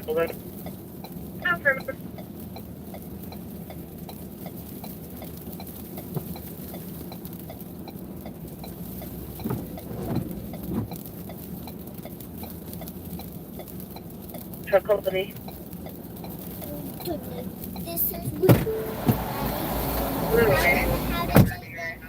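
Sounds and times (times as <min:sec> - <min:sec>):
hazard flasher relay ticking: 0:00.0 - 0:18.3
idling engine cabin hum: 0:00.0 - 0:22.0.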